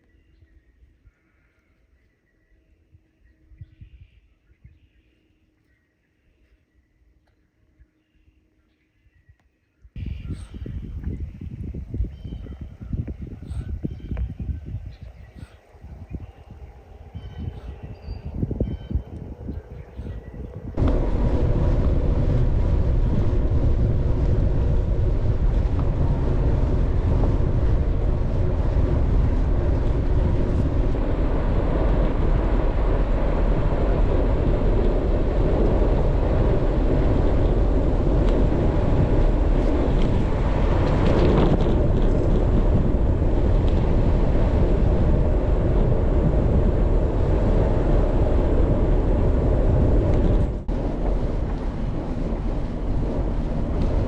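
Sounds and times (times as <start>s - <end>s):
wind rush on microphone: 0.0s - 5.1s, 9.1s - 54.0s.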